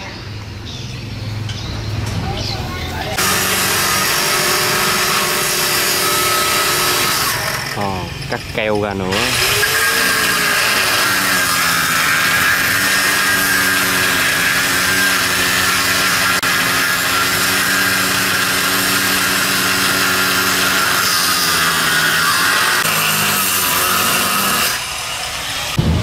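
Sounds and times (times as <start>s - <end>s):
angle grinder cutting wood: 3.2s - 26.0s.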